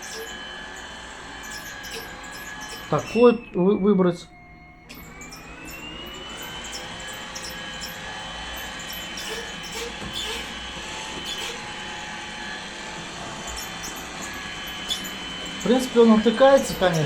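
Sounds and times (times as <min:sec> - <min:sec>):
robot vacuum cleaner whine: 0:00.0 - 0:17.0.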